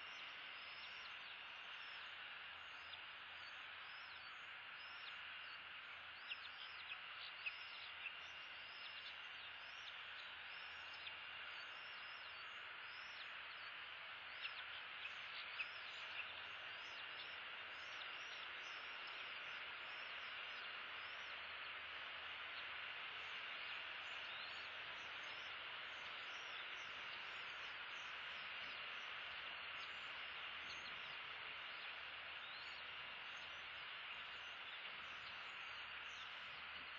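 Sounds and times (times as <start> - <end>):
faint steady hiss: 0.0 - 36.9.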